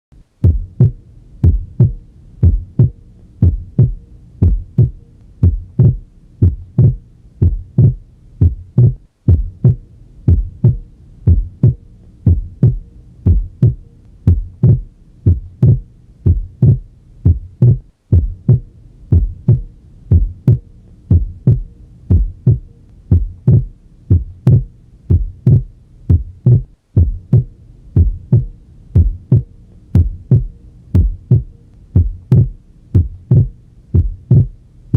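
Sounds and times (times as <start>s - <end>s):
heartbeat through stethoscope: 0.4s - 34.6s.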